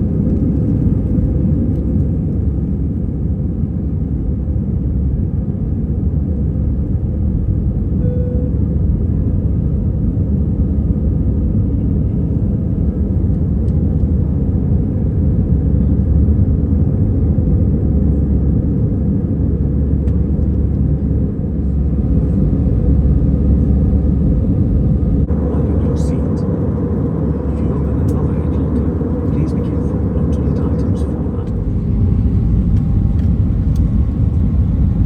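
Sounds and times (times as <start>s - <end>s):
vehicle rumble in motion: 0.0s - 35.0s.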